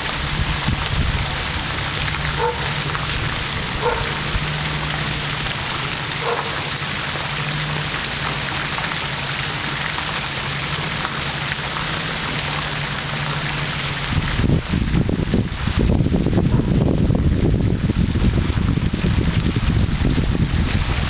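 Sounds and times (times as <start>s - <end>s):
splashing water rushing: 0.0s - 21.0s.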